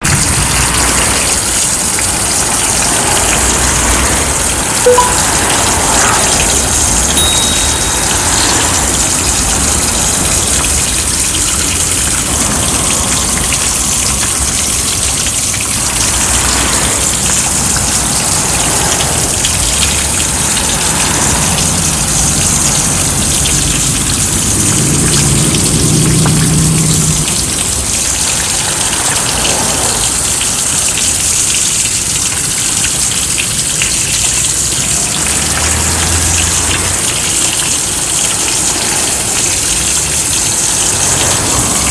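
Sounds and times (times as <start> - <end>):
heavy rain pouring: 0.0 - 41.9
traffic engine hum: 0.0 - 41.9.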